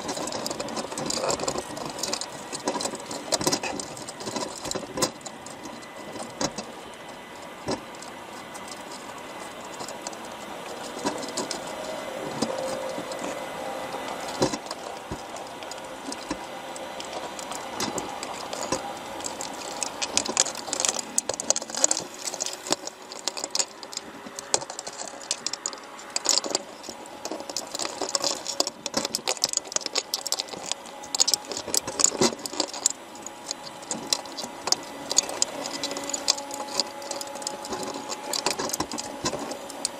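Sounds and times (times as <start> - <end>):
underwater clicking and crackling: 0.0 - 39.9.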